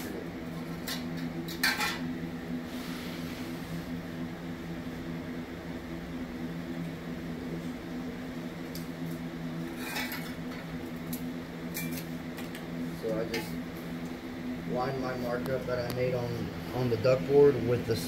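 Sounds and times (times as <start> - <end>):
box fan humming: 0.0 - 18.0.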